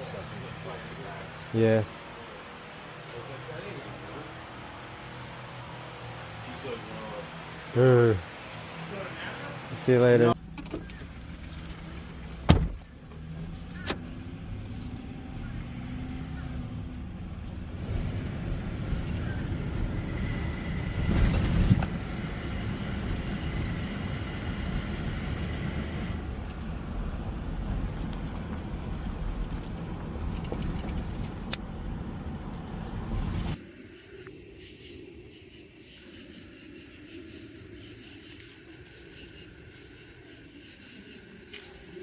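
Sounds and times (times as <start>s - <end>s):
moving vehicle rumble: 0.0s - 33.6s
road and wind noise: 0.0s - 35.8s, 36.5s - 42.0s.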